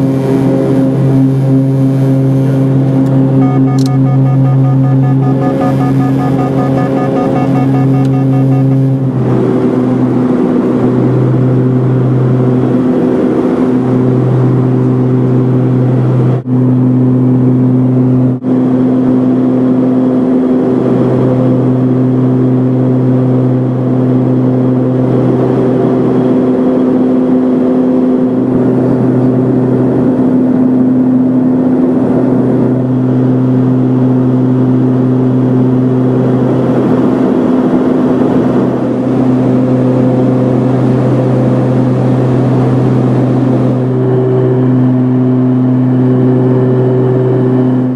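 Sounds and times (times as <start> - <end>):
turboprop cabin drone: 0.0 - 47.9.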